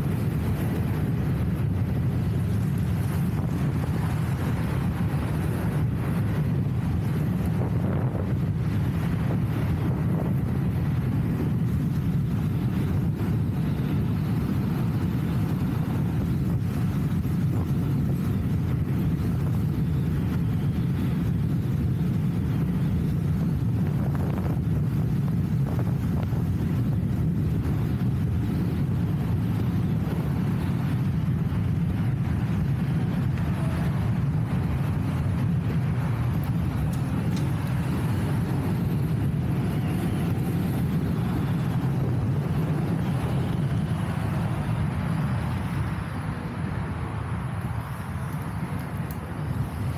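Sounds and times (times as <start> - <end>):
road noise: 0.0 - 49.9
wind buffeting microphone: 0.0 - 49.9.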